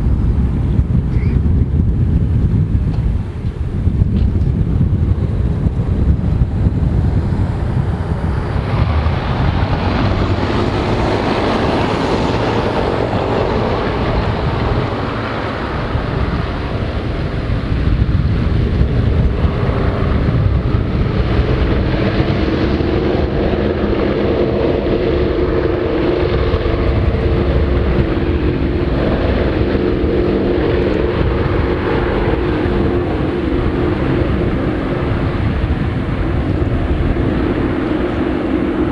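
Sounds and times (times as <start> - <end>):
aircraft engines droning: 0.0 - 38.9
wind rumble on microphone: 0.0 - 38.9.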